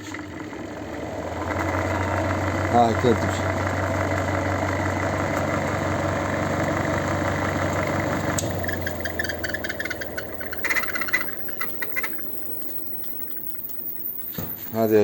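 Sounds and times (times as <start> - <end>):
spin-dryer motor humming: 0.0 - 15.0.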